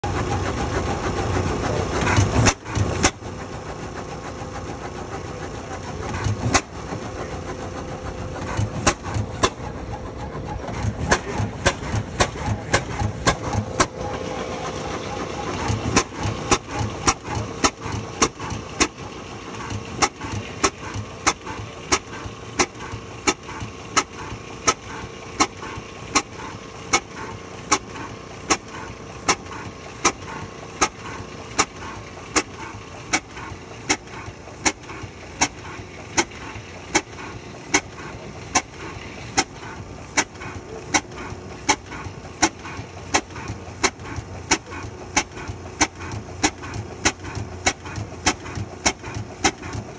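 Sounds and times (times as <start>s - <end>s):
hit-and-miss engine exhaust pops: 0.0s - 49.9s.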